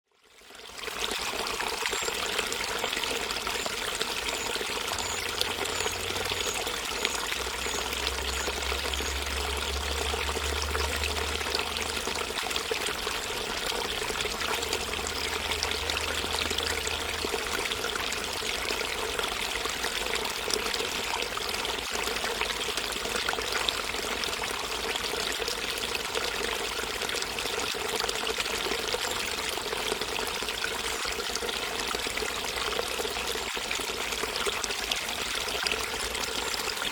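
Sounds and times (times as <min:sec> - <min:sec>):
river water flowing over rocks: 0:01.0 - 0:36.9.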